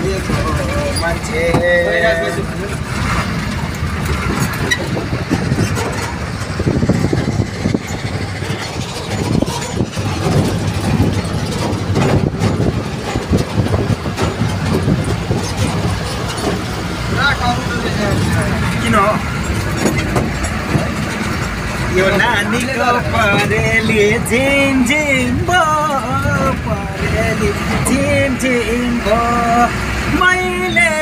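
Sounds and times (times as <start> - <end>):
vehicle engine and road rumble: 0.0 - 31.0
knocks and rattles: 2.4 - 28.2.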